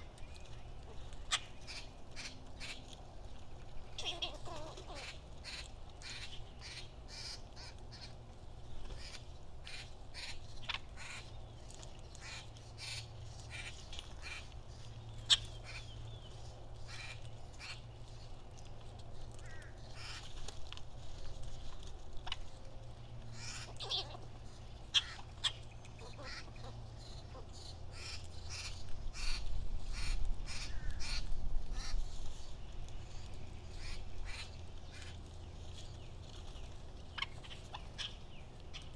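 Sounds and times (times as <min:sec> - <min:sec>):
loud sharp bird calls: 0:00.0 - 0:02.9, 0:03.8 - 0:18.2, 0:19.4 - 0:20.4, 0:23.3 - 0:32.5, 0:33.1 - 0:38.9
birds chirping: 0:00.0 - 0:38.9.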